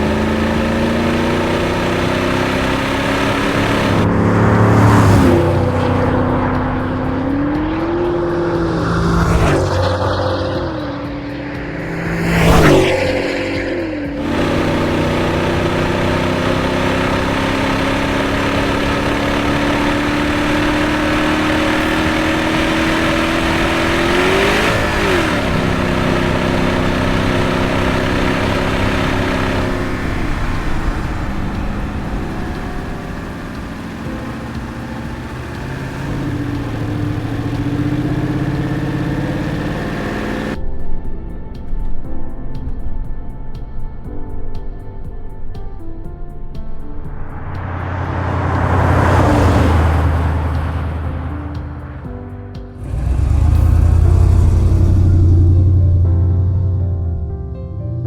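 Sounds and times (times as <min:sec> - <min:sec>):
vehicle passing by: 0:00.0 - 0:40.6, 0:46.6 - 0:52.1, 0:52.8 - 0:58.0
car engine while driving: 0:00.0 - 0:40.7, 0:46.5 - 0:58.0.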